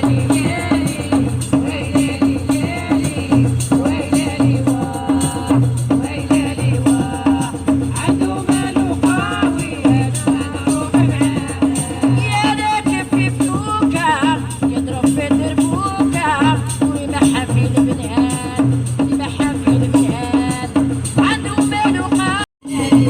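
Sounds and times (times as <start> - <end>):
shaker rattle: 0.0 - 23.0
steady drum beat: 0.0 - 23.0.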